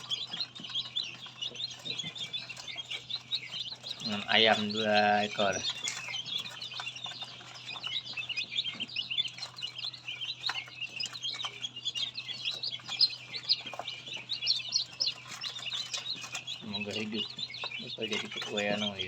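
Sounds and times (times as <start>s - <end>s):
chicks peeping: 0.0s - 19.0s
incubator hum: 0.0s - 19.0s.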